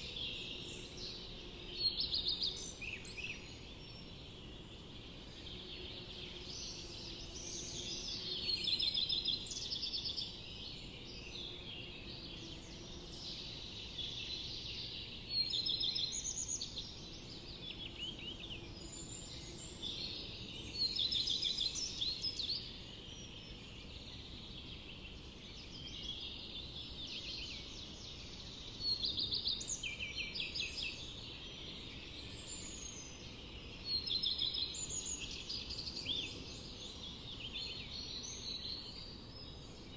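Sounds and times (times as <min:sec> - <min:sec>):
forest ambience hiss: 0:00.0 - 0:39.9
songbird singing rapid notes: 0:00.0 - 0:39.9.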